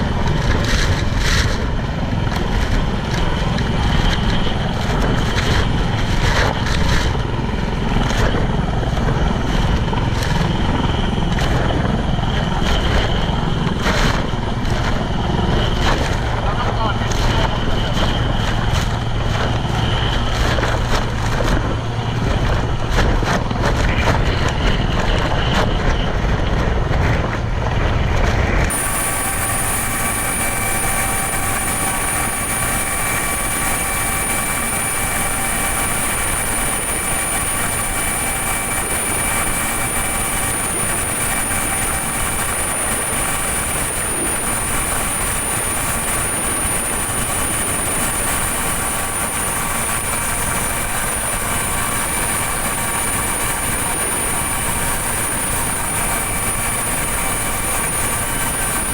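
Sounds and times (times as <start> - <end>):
machine whine with high tones: 0.0 - 26.8, 28.6 - 58.9
loud engine noise: 0.0 - 58.9.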